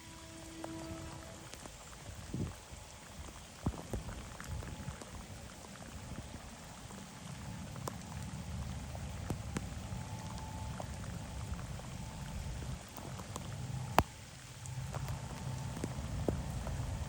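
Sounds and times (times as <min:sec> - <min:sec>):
low rumble: 0:00.0 - 0:17.0
steady rain: 0:00.0 - 0:17.0.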